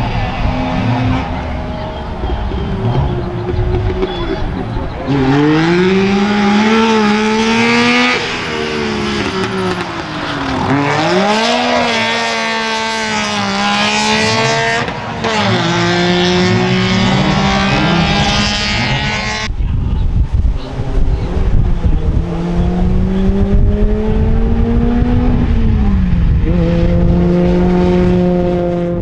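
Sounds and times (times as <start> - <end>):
rally car engines revving: 0.0 - 29.0.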